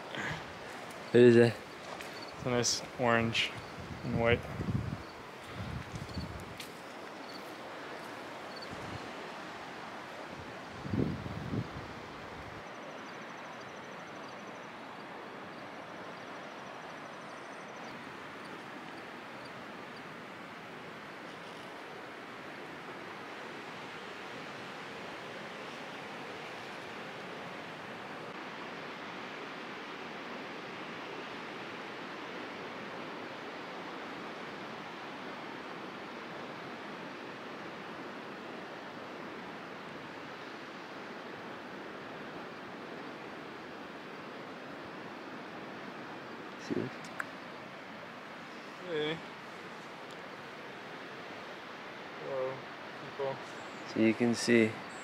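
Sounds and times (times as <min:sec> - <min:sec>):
outdoor ambient hiss: 0:00.0 - 0:55.0
waves on the shore: 0:00.0 - 0:55.0
wind: 0:00.0 - 0:55.0.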